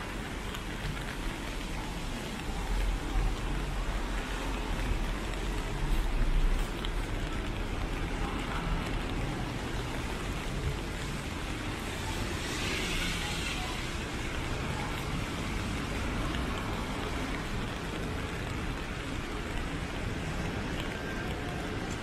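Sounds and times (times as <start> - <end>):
rain hissing: 0.0 - 22.0
traffic on wet streets: 0.0 - 22.0.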